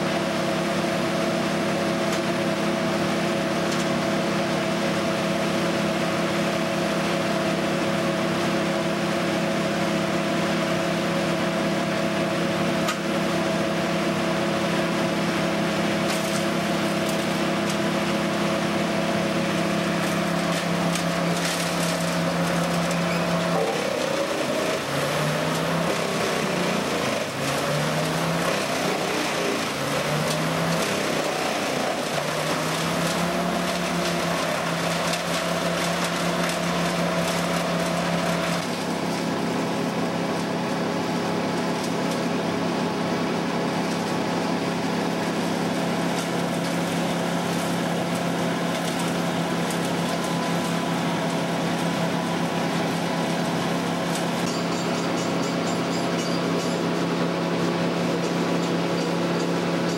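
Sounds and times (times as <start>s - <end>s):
wood chipper engine running: 0.0s - 59.9s
wood crackling through chipper: 8.8s - 59.9s.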